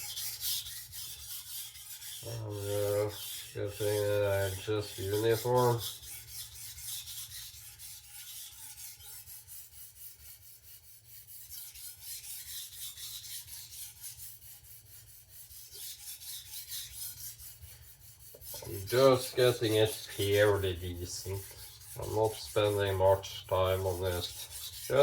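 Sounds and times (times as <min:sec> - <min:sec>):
knife rasping on sharpening stone: 0:00.0 - 0:25.0.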